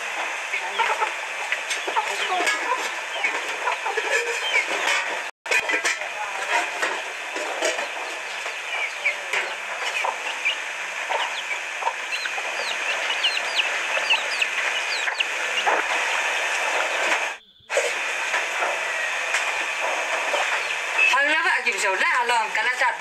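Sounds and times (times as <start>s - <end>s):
steady background hiss: 0.0s - 23.0s
chicks peeping: 0.6s - 5.3s, 7.5s - 21.7s.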